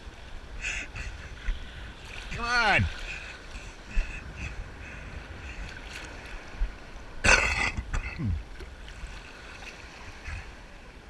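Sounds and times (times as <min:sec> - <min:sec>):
sea water sloshing and lapping: 0:00.0 - 0:11.0
wind rumble on microphone: 0:00.0 - 0:11.0.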